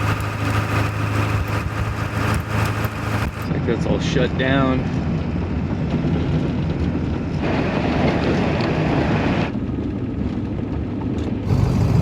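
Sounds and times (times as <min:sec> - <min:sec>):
diesel truck engine drone: 0:00.0 - 0:09.6, 0:11.2 - 0:12.0
road noise: 0:00.0 - 0:12.0.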